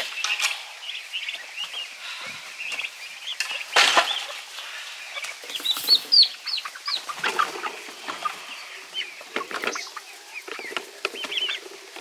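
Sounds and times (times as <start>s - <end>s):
young birds peeping and chirping: 0.0s - 12.0s.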